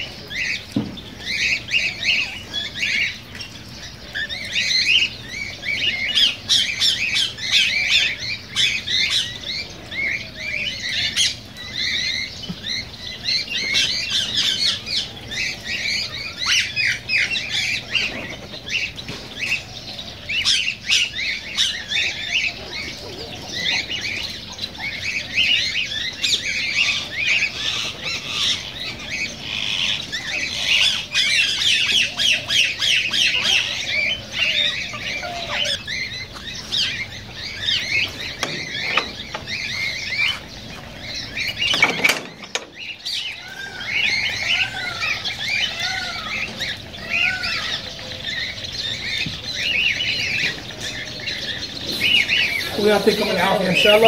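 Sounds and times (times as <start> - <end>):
birds chirping and squawking: 0.0 - 54.0.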